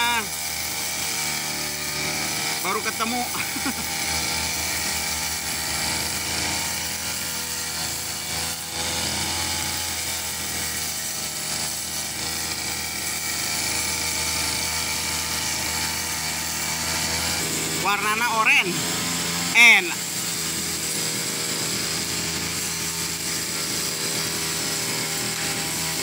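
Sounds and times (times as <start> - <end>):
brush cutter engine running: 0.0 - 26.0
trimmer head cutting grass: 0.0 - 26.0.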